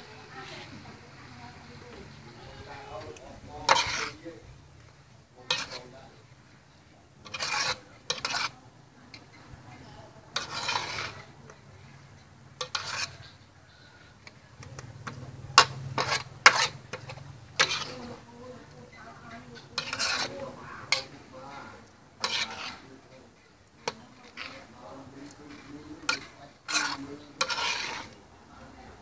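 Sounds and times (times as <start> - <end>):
spatula scraping a metal wok: 0.0 - 29.0.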